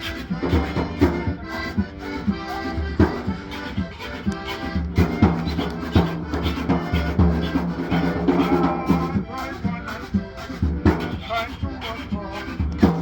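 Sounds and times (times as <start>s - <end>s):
accordion chords: 0.0s - 13.0s
scraping rhythm: 0.0s - 13.0s
thumping drum beat: 0.0s - 13.0s.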